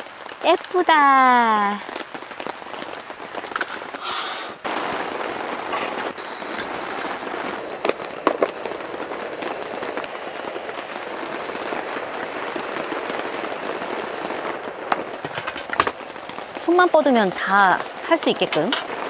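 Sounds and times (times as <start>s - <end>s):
heavy rain on a shelter: 0.0s - 19.0s.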